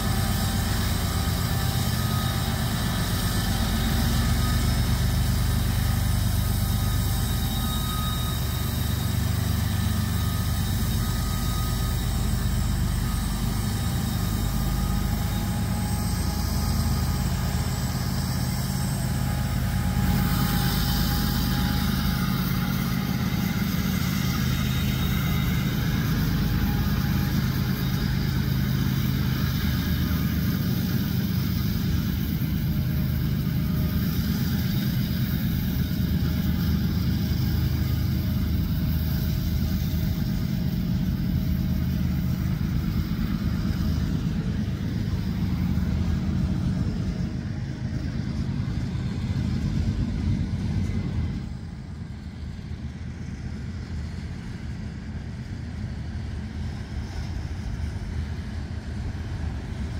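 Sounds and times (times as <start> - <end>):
freight cars rolling on rails: 0.0 - 59.9
locomotive engine drone: 0.0 - 59.9.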